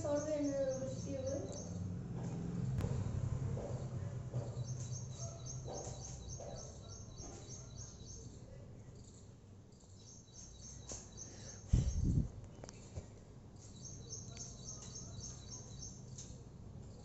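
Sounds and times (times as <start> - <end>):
small bird chirping: 0.0 - 1.9, 3.8 - 17.0.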